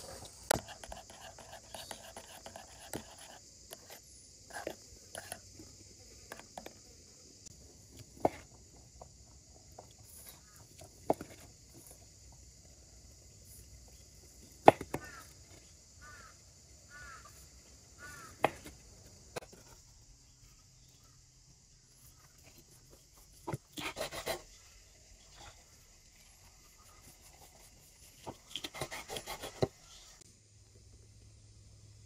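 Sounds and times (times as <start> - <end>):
high insect drone: 0.0 - 32.0.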